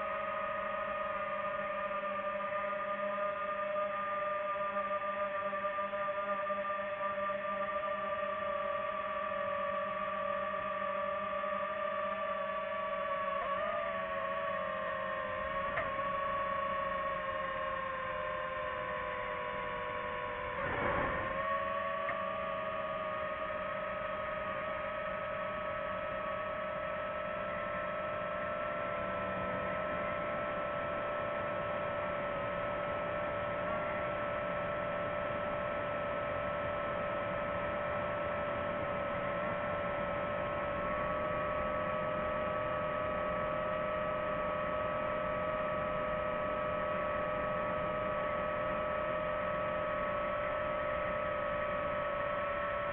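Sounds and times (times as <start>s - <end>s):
drone propellers humming: 0.0s - 52.9s.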